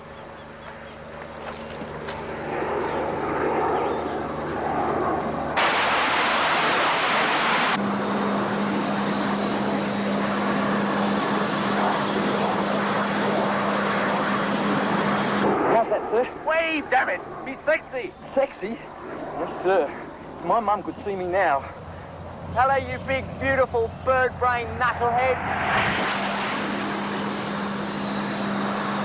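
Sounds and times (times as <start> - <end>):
jet aircraft passing low: 0.0 - 29.0
steady low hum: 0.0 - 29.0.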